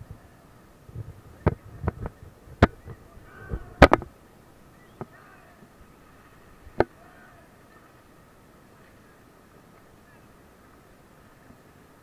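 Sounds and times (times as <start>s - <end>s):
river water rushing: 2.1s - 12.0s.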